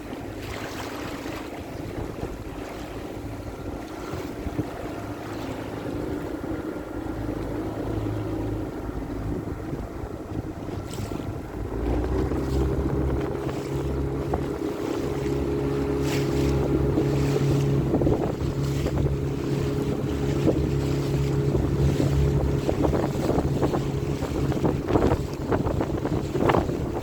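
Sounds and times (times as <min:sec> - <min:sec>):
motorboat engine running: 0:00.0 - 0:27.0
water washing past hull: 0:00.0 - 0:27.0
wind buffeting microphone: 0:00.0 - 0:27.0.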